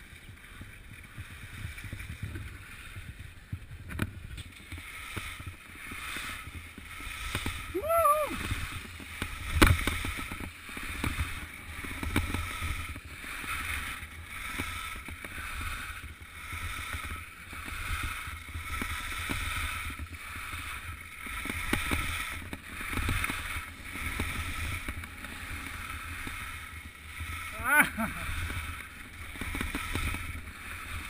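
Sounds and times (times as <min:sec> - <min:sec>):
skis sliding on snow: 0:00.0 - 0:31.0
wind rumble on microphone: 0:00.0 - 0:31.0.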